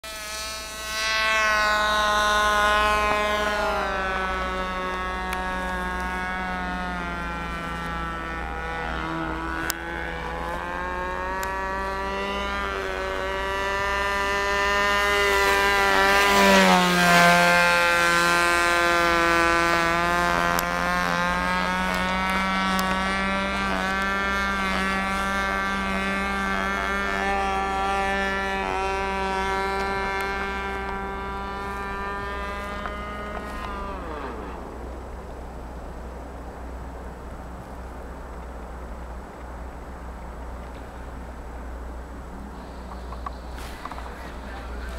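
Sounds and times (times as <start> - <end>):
model plane engine running: 0.0 - 36.2, 42.4 - 44.9.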